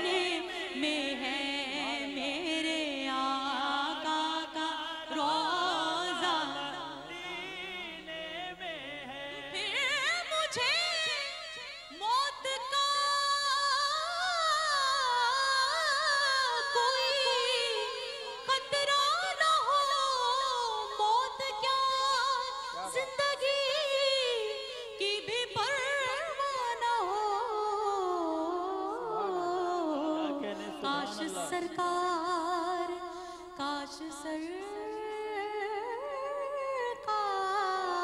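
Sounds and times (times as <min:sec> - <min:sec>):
woman singing into a microphone: 0:00.0 - 0:38.0.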